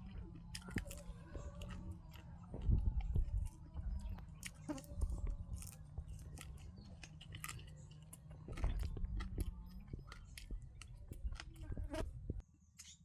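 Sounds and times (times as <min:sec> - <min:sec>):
person chewing food: 0:00.0 - 0:12.1
steady low hum: 0:00.0 - 0:12.4.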